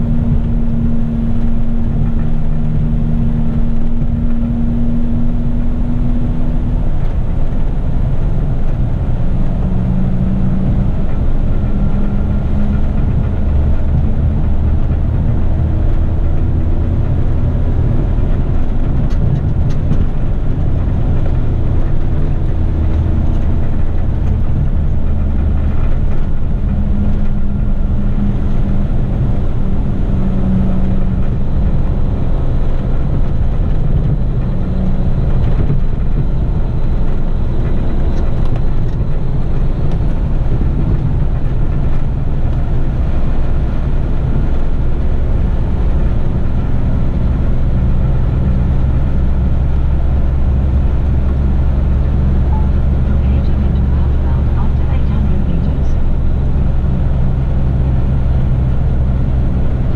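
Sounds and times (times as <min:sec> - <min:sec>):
truck diesel engine running: 0:00.0 - 0:59.9
tyre and road noise: 0:00.0 - 0:59.9.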